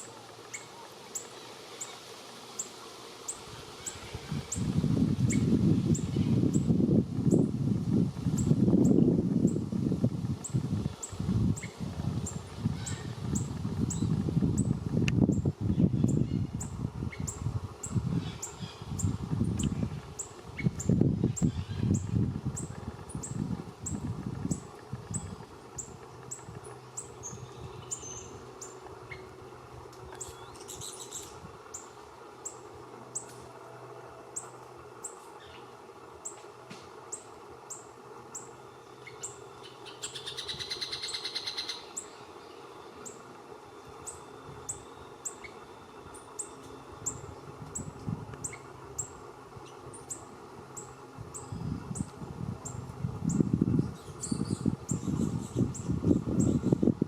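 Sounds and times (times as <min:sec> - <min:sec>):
buzzy bird trill: 0:00.0 - 0:07.5, 0:10.4 - 0:33.3, 0:37.1 - 0:43.3, 0:43.9 - 0:57.0.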